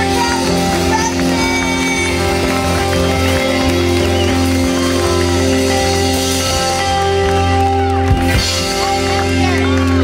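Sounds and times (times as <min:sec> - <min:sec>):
live band playing: 0:00.0 - 0:10.0.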